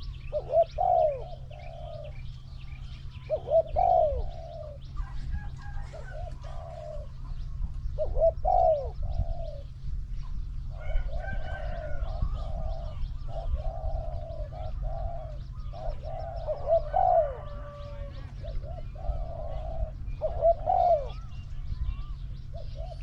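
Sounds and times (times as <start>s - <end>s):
doves cooing: 0.0s - 23.0s
steady low rumble: 0.0s - 23.0s.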